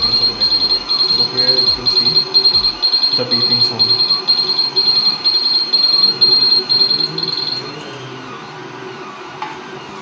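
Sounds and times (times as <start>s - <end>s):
buzzer beeping alarm: 0.0s - 8.5s.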